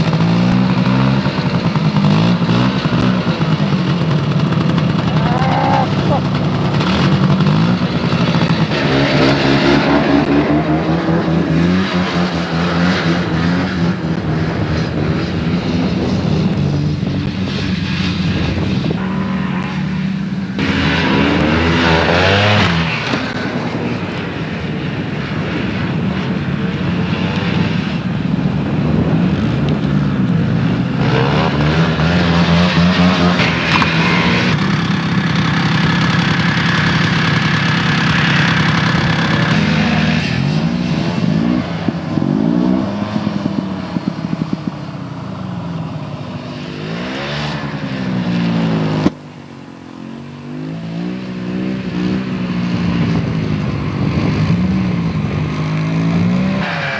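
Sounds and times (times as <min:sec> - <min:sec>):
snowmobile engines revving: 0:00.0 - 0:56.9.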